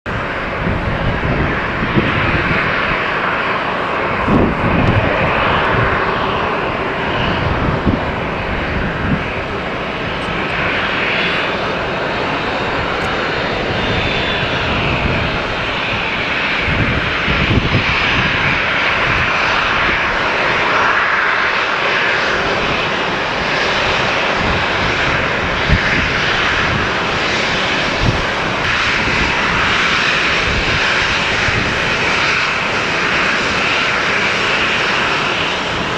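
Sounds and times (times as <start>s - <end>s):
jet engines rushing: 0.1s - 35.9s.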